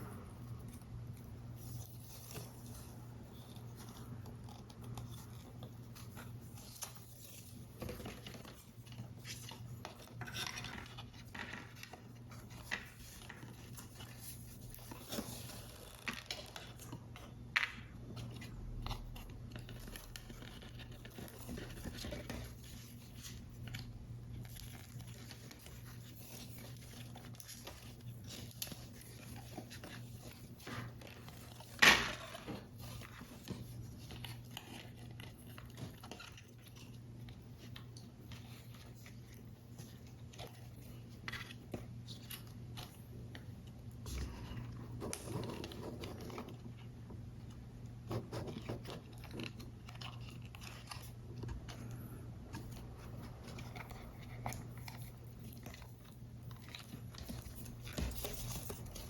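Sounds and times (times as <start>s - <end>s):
paper rustling: 0.6s - 59.0s.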